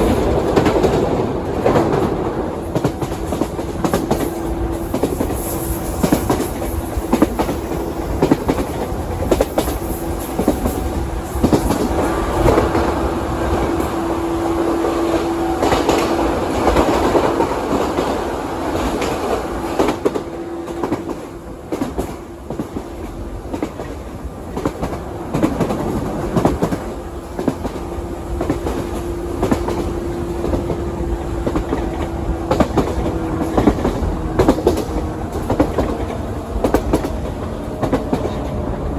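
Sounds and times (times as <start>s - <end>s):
train rumble: 0.0s - 38.9s
train wheels clattering over joints: 0.0s - 38.9s.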